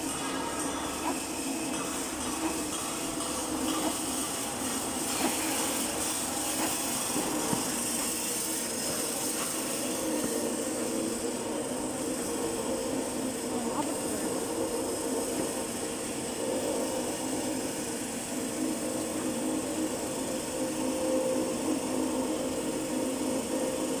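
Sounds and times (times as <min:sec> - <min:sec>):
cutting machine and conveyor drone: 0:00.0 - 0:24.0.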